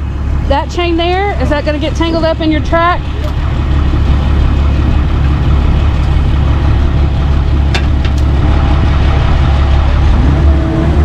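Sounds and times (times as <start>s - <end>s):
heavy engine idling: 0.0s - 11.0s.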